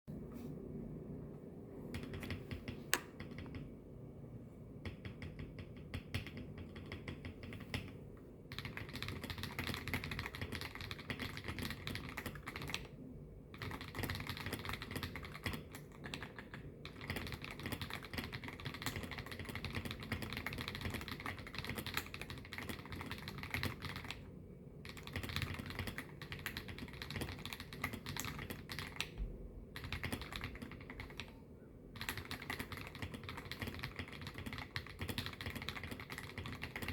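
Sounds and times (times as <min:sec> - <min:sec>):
typing on mechanical keyboard: 0:01.9 - 0:03.8, 0:04.8 - 0:36.9.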